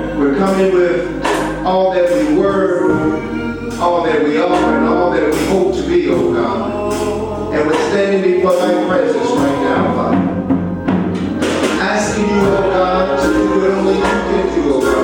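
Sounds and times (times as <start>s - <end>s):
gospel singing: 0.0s - 15.0s
instrumental backing: 0.0s - 15.0s.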